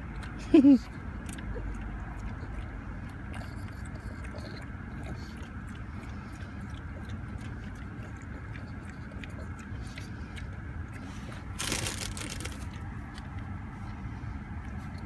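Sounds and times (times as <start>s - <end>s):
dog crunching peas: 0.0s - 14.0s
low car rumble: 0.0s - 15.0s.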